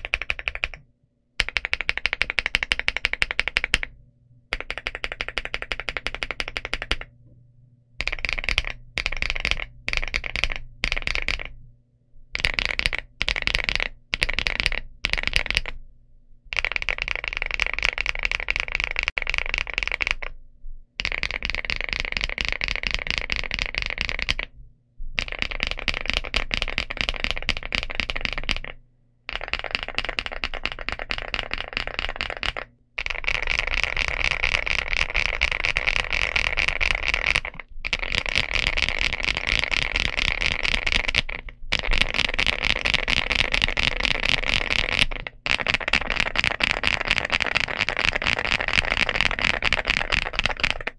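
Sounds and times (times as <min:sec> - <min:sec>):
mechanical keyboard typing: 0:00.0 - 0:00.8, 0:01.4 - 0:03.9, 0:04.5 - 0:07.1, 0:08.0 - 0:11.6, 0:12.4 - 0:15.8, 0:16.5 - 0:20.4, 0:21.0 - 0:24.5, 0:25.2 - 0:50.9.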